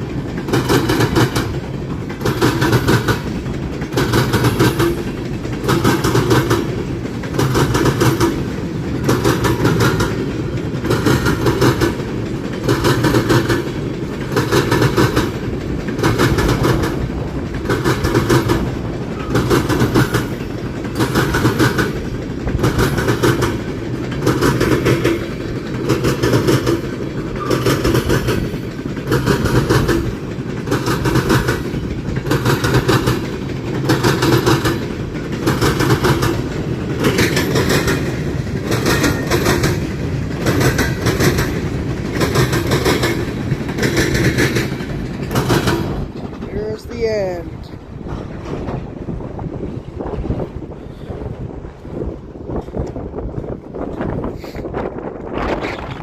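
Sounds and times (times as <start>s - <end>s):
train low rumble: 0.0s - 56.0s
train wheels clacking: 0.0s - 56.0s.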